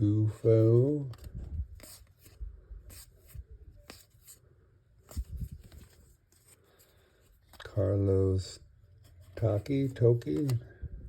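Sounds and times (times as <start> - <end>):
cards sliding and rubbing: 0.5 - 7.9, 8.9 - 10.6.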